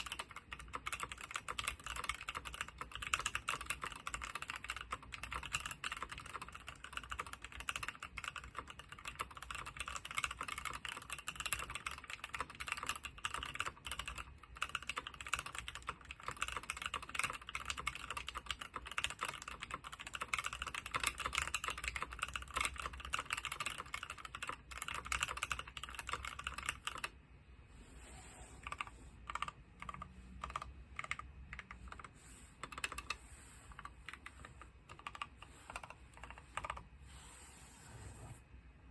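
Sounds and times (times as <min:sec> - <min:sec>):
mechanical keyboard typing: 0:00.0 - 0:27.2, 0:28.6 - 0:36.9.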